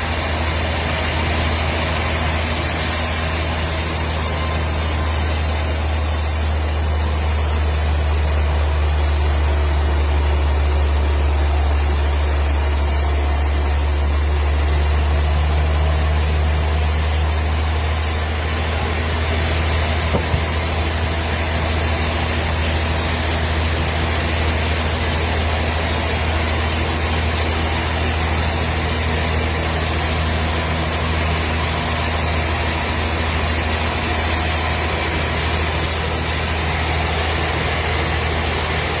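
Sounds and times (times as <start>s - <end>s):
machine engine humming: 0.0s - 39.0s.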